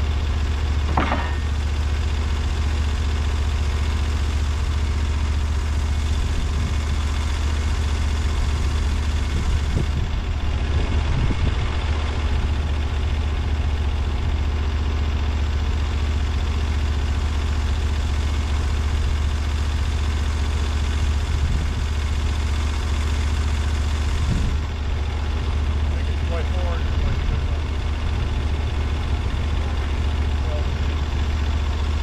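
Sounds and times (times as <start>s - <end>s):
sawmill engine running steadily: 0.0s - 32.0s.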